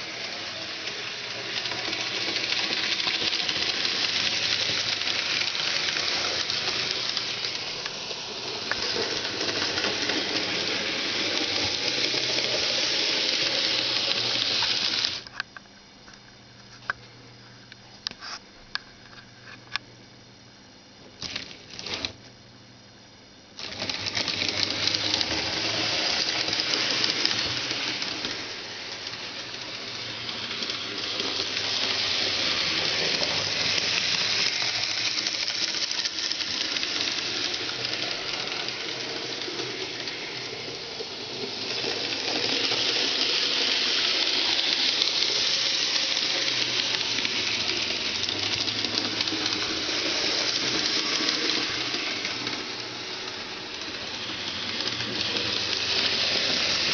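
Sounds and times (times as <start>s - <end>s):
wheels clicking over rails: 0.0s - 15.2s, 23.6s - 56.9s
model train motor whirring: 0.0s - 15.4s, 21.2s - 22.2s, 23.6s - 56.9s.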